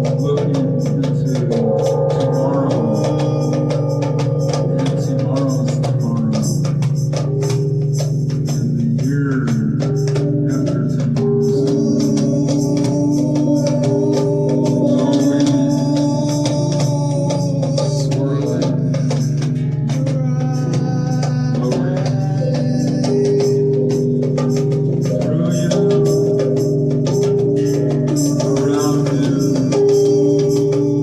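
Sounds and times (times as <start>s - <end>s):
held wavering notes: 0.0s - 31.0s
percussion strokes: 0.0s - 31.0s.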